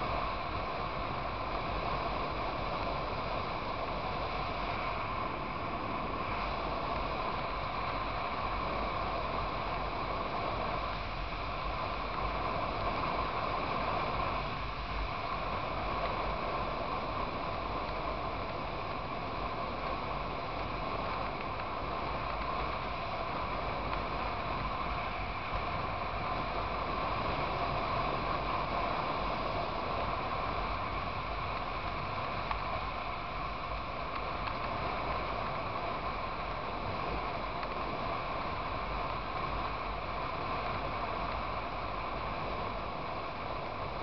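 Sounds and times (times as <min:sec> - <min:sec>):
wind rush: 0:00.0 - 0:44.0.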